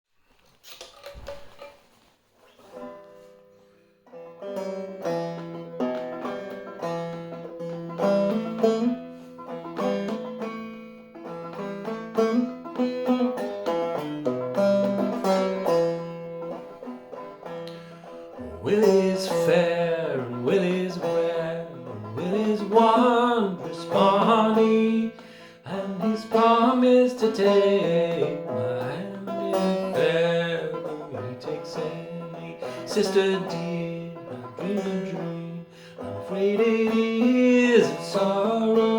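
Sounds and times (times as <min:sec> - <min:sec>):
banjo playing slow minor tune: 0:00.7 - 0:38.9.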